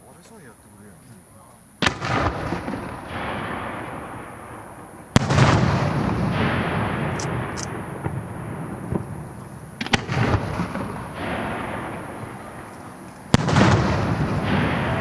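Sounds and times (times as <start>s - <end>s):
fireworks bursting with bang: 1.8s - 15.0s.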